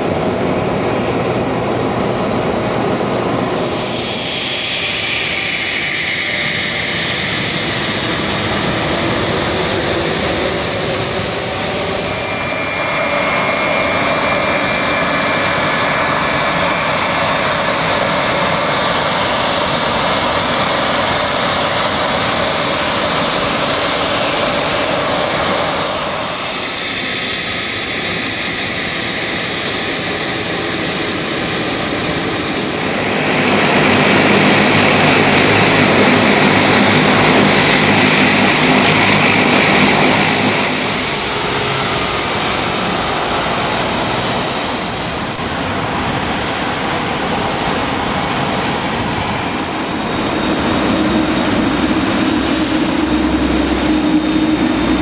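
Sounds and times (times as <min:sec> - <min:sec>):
jet engines taxiing: 0:00.0 - 0:55.0
turboprop whine and propeller hum: 0:00.0 - 0:55.0.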